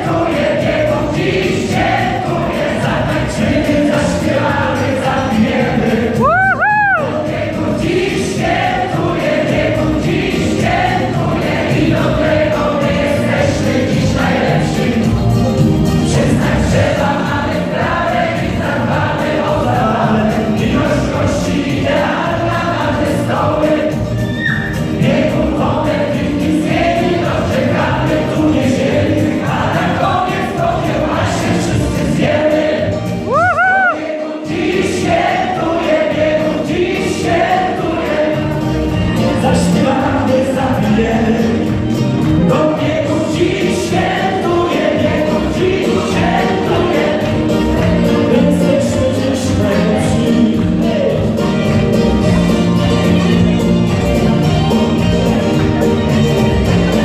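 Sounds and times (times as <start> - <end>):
group of adults singing: 0.0 - 57.0.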